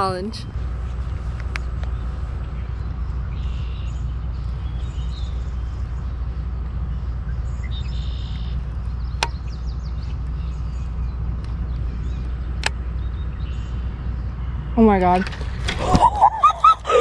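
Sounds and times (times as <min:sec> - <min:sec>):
birds chirping: 0:00.0 - 0:17.0
wind rumble on microphone: 0:00.0 - 0:17.0.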